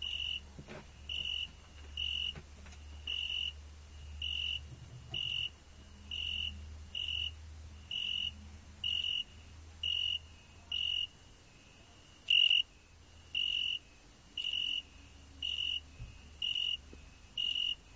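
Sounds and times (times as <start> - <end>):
cricket chirping: 0.0 - 17.9.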